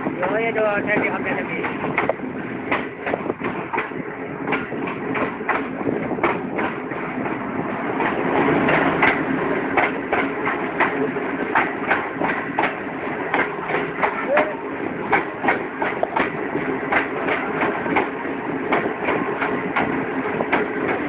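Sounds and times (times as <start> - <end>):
train rumbling past: 0.0 - 21.0
wheels clattering over rail joints: 0.0 - 21.0.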